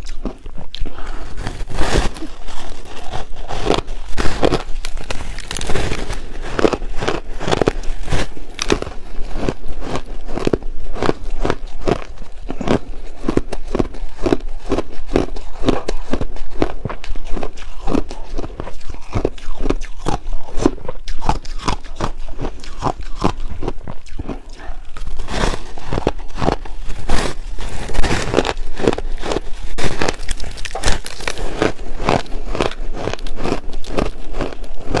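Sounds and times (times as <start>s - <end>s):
ice crunching being chewed: 0.0s - 35.0s.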